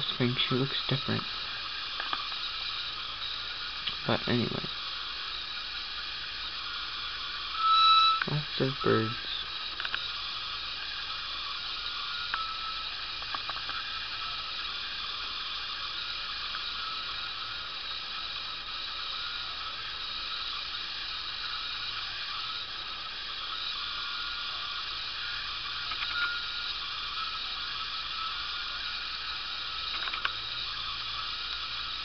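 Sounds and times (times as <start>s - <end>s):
high hiss: 0.0s - 32.0s.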